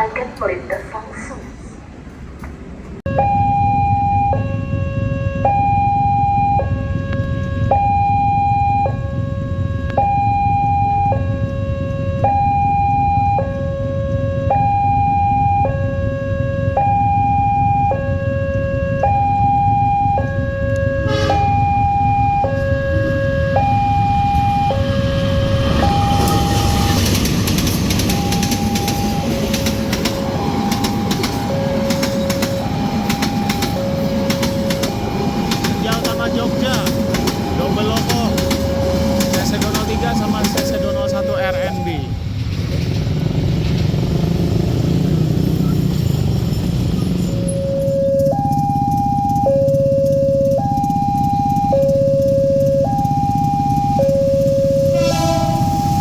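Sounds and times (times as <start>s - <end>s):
passing train rumble: 0.0s - 56.0s
level crossing alarm two tones: 3.1s - 42.2s, 47.2s - 56.0s.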